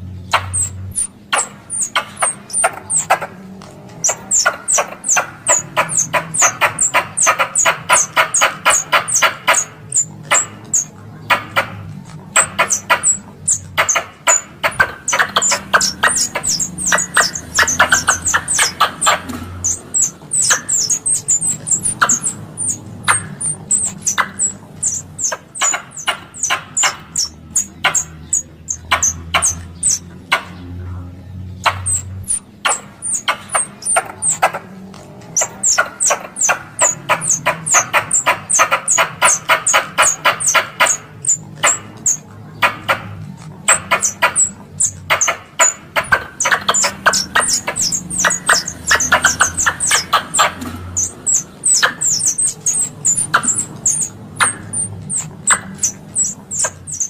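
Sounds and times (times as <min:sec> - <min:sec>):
squirrel chattering calls: 0:00.0 - 0:57.0.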